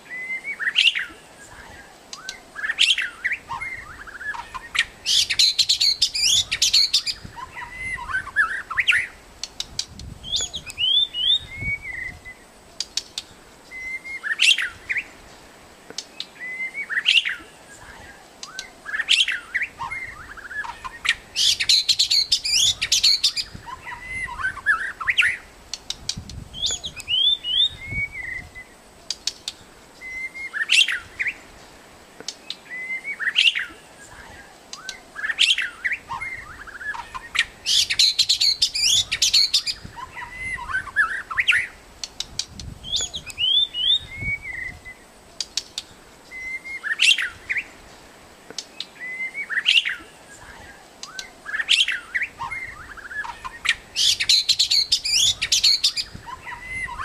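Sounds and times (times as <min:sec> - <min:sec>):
bird whistling song: 0:00.0 - 0:15.2, 0:16.0 - 0:31.4, 0:32.4 - 0:47.8, 0:48.6 - 0:57.0.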